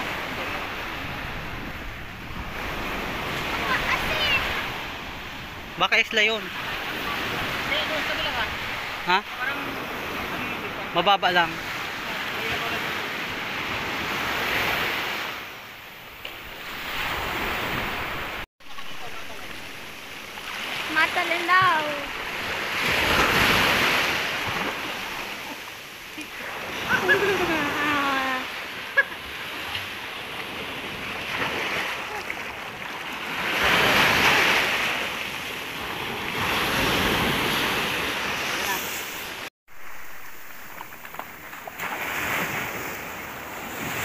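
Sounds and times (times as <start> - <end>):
sea waves washing on beach: 0.0 - 44.0.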